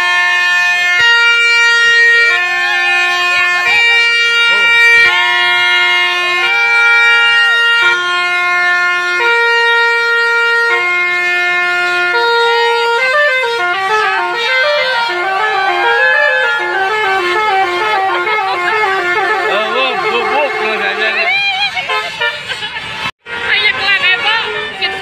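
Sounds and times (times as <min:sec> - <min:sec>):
musical bus horn: 0:00.0 - 0:25.0.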